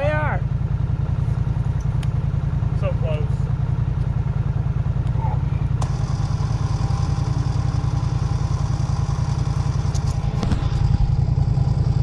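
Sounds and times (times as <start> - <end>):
off-road vehicle engine idling: 0.0 - 12.0.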